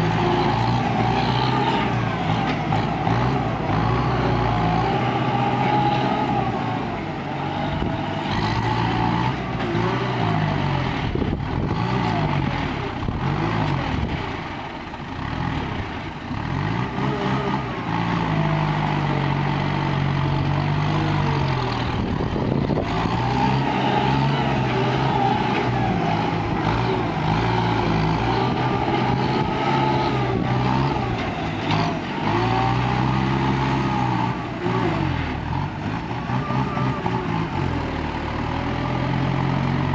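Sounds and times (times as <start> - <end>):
diesel truck engine revving: 0.0 - 39.9
tractor engine under load: 0.0 - 39.9.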